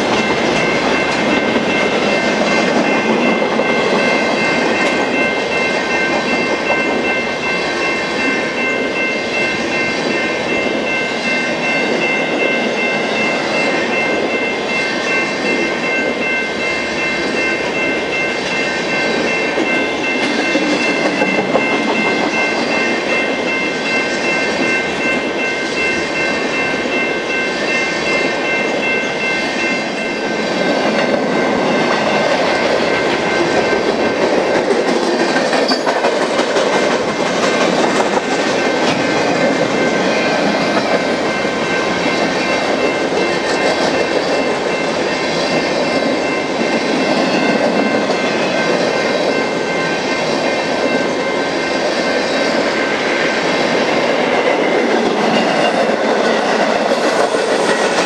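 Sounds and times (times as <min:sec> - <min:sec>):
train wheel clatter: 0:00.0 - 0:10.9, 0:18.4 - 0:58.0
freight train rumbling past: 0:00.0 - 0:58.0.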